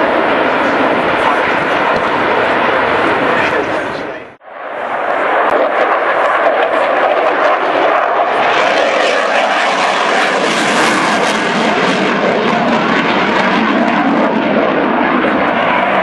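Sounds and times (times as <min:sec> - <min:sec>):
airplane engine roar: 0:00.0 - 0:16.0.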